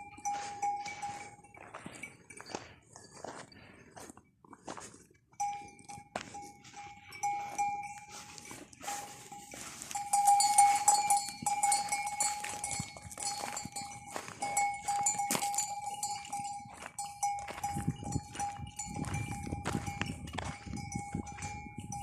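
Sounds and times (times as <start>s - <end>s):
livestock bell ringing: 0.0s - 4.4s, 5.3s - 22.0s.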